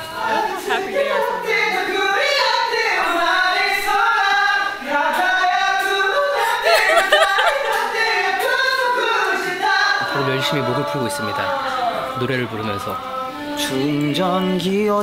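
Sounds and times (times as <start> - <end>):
men singing a cappella: 0.0 - 15.0.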